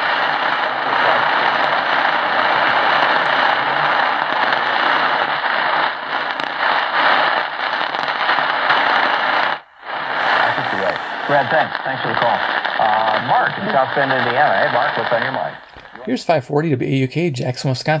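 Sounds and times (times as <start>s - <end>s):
radio static and crackle: 0.0s - 16.4s.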